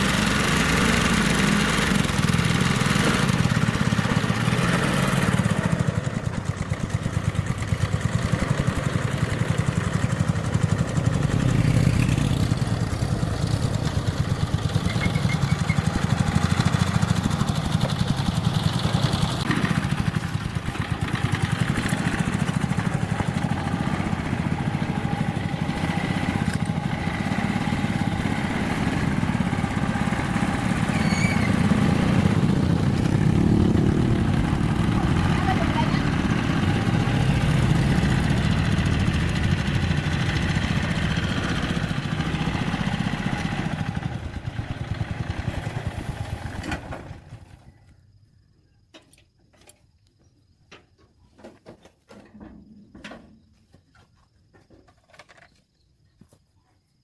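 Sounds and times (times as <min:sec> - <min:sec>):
small engine running: 0:00.0 - 0:47.7.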